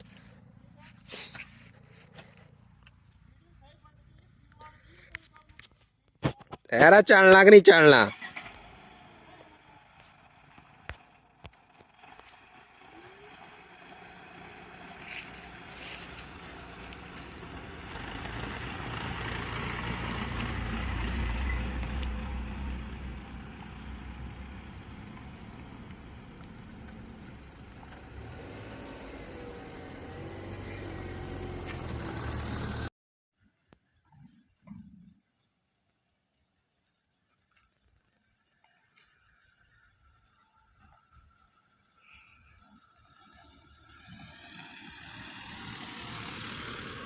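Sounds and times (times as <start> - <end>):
car engine and tyre rumble: 0.0 - 6.1, 6.8 - 32.9, 41.1 - 47.0.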